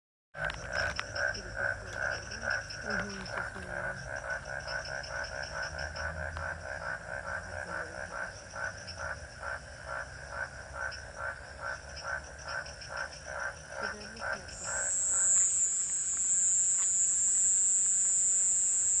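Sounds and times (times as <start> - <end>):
frogs croaking: 0.4 - 19.0.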